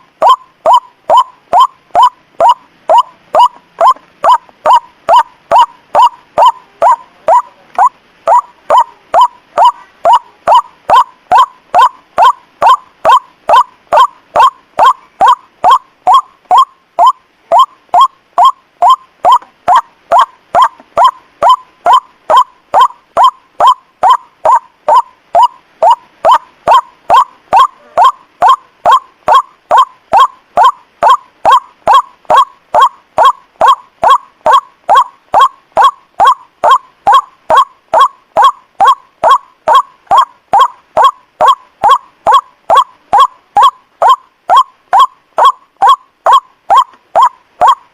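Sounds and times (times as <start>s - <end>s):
waterhen call: 0.0s - 47.9s.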